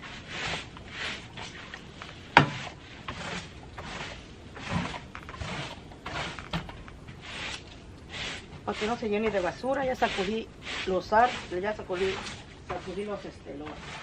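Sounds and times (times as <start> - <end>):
broom sweeping wooden deck: 0.0 - 14.0.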